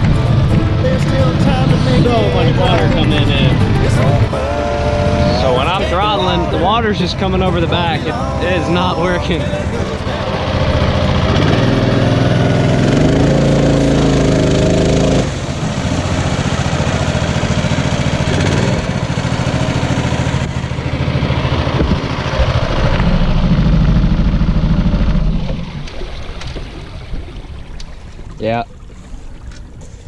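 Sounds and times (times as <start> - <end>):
boat motor engine running: 0.0 - 30.0
water splashing: 0.0 - 30.0.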